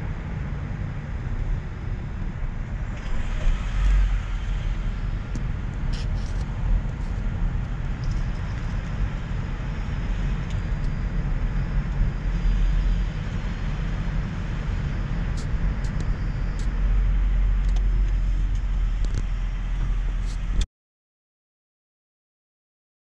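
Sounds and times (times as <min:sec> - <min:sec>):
car engine and road noise: 0:00.0 - 0:20.6.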